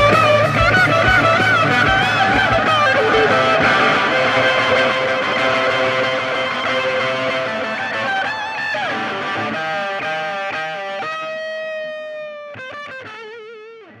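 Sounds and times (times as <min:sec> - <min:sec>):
distorted electric guitar lead: 0:00.0 - 0:14.0.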